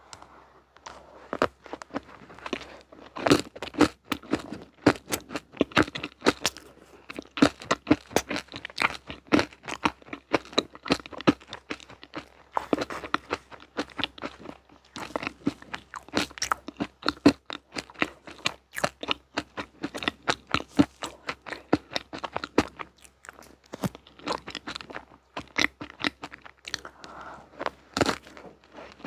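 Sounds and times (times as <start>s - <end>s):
chewing crunchy sweets: 0.8s - 29.0s.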